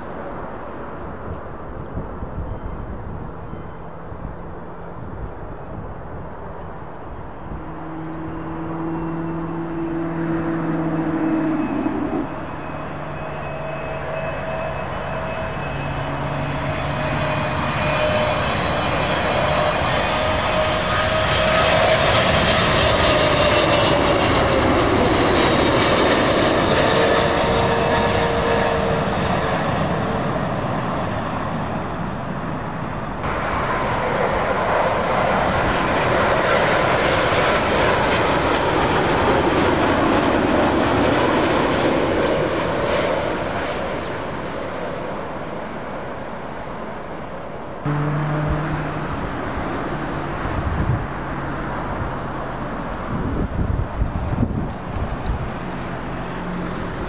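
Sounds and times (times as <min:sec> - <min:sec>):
jet engines whining overhead: 0:00.0 - 0:57.0.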